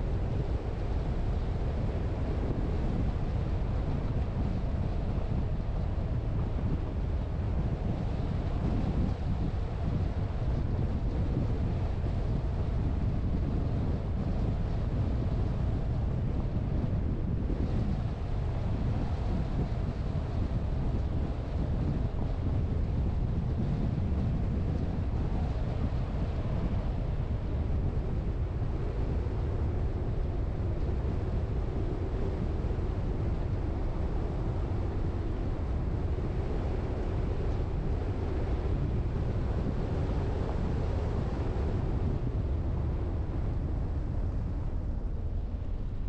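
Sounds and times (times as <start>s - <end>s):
wind on microphone: 0.0s - 46.0s.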